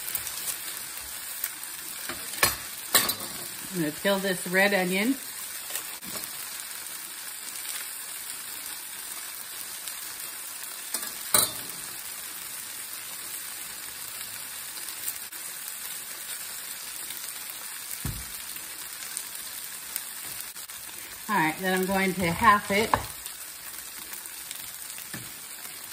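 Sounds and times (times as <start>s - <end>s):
vegetables sizzling in a frying pan: 0.0s - 25.9s.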